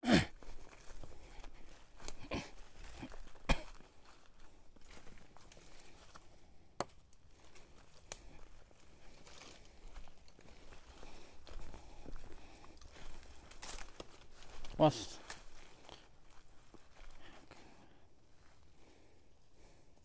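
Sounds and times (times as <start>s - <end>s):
faint rustling and scuffing: 0.5s - 18.7s.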